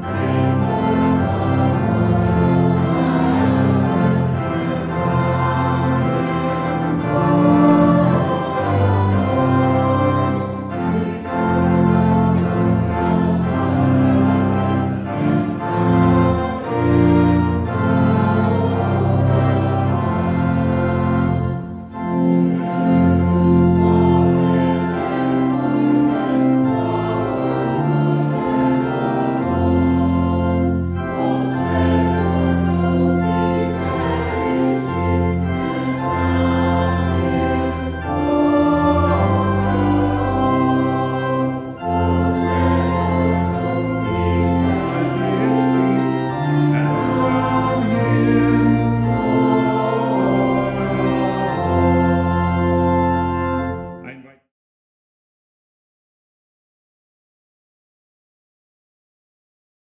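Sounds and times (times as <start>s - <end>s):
choir and congregation singing: 0.0s - 54.2s
church organ playing chords: 0.0s - 54.4s.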